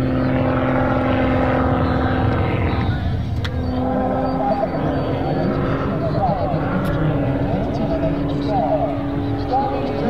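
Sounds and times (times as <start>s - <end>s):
propeller airplane engine droning: 0.0s - 10.0s.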